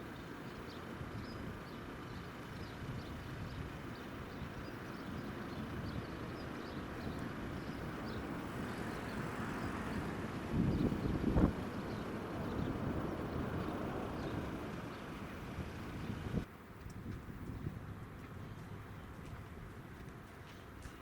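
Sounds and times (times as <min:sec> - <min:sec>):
distant jet engines rumbling: 0:00.0 - 0:21.0
wind buffeting microphone: 0:00.5 - 0:21.0.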